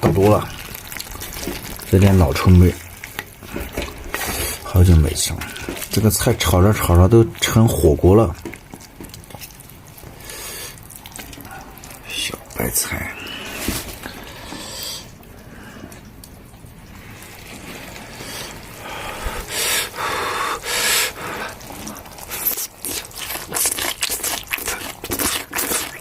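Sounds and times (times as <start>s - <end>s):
water splashing and dripping: 0.0s - 26.0s.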